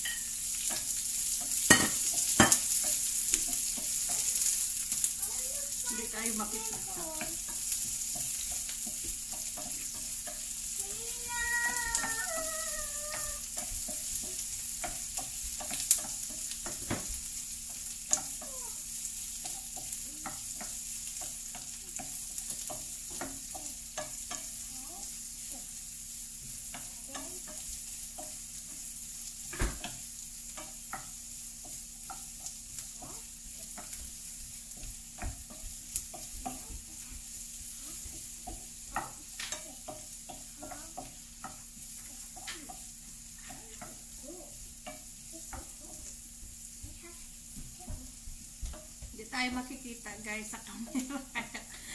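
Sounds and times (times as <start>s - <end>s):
onions sizzling in oil: 0.0s - 51.9s.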